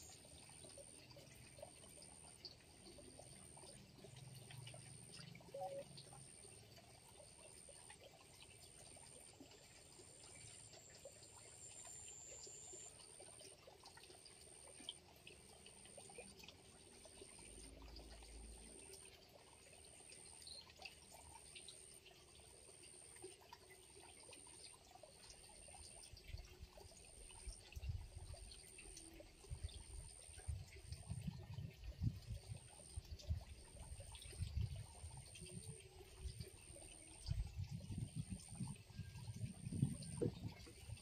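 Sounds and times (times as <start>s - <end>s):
water trickling into pond: 0.0s - 41.0s.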